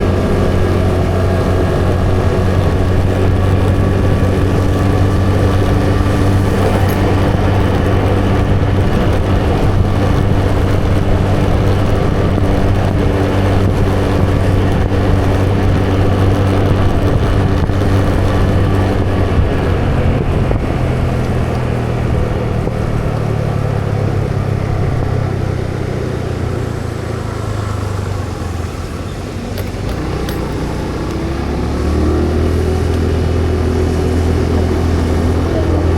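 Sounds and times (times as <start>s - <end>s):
road and wind noise: 0.0s - 35.9s
vehicle engine running: 0.0s - 35.9s.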